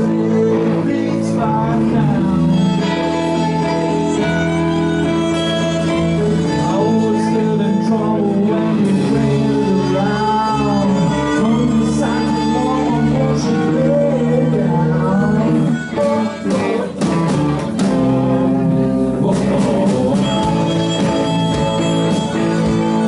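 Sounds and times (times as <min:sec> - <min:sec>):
electric guitars: 0:00.0 - 0:23.0
live rock band playing: 0:00.0 - 0:23.0
violin: 0:00.0 - 0:23.0.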